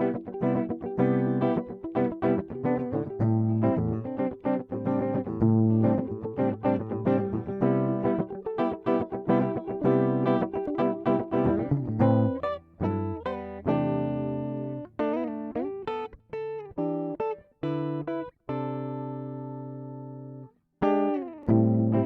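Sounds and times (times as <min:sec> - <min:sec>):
guitar plucked notes and chords: 0:00.0 - 0:22.0.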